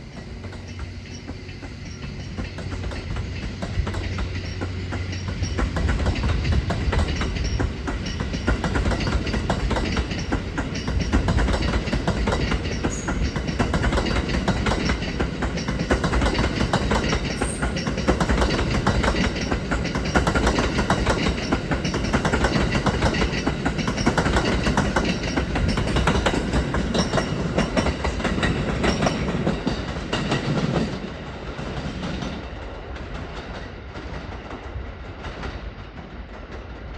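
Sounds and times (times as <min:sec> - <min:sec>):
train wheels clattering over rail joints: 0:00.1 - 0:36.9.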